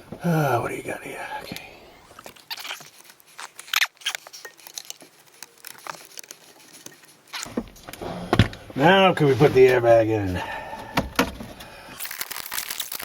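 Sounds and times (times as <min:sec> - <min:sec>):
rustling of wiring: 0:01.5 - 0:13.0.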